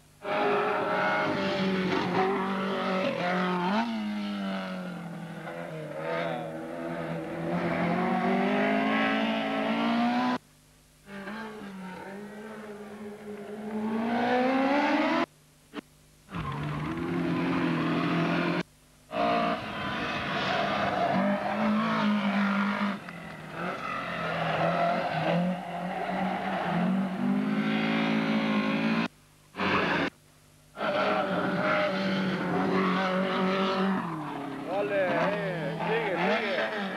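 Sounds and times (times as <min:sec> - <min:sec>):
race car engines revving: 0:00.2 - 0:10.4, 0:11.1 - 0:15.3, 0:16.3 - 0:30.2, 0:30.8 - 0:36.9.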